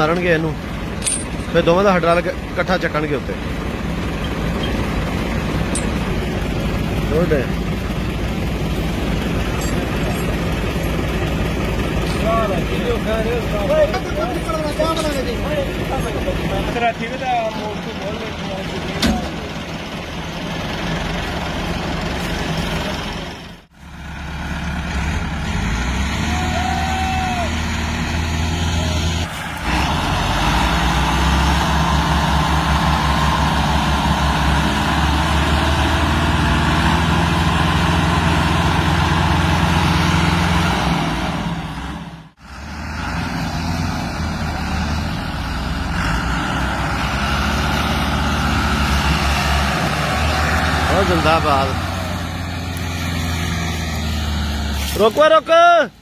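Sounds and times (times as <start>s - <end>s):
tractor diesel engines running hard: 0.0s - 56.0s.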